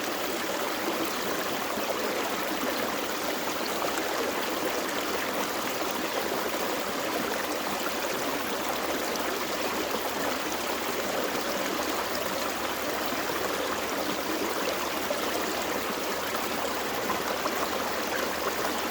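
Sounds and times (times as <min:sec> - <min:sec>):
stream flowing over rocks: 0:00.1 - 0:18.9.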